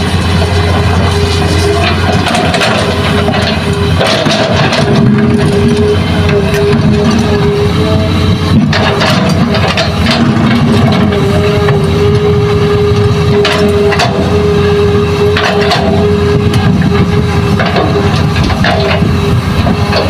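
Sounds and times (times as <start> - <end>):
excavator diesel engine whining: 0.0 - 20.0.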